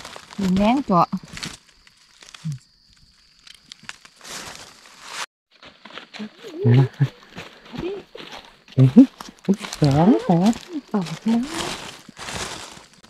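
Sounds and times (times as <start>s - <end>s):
footsteps through dry leaves: 0.0s - 2.6s, 3.8s - 13.0s
dry leaves crackling: 0.0s - 13.0s.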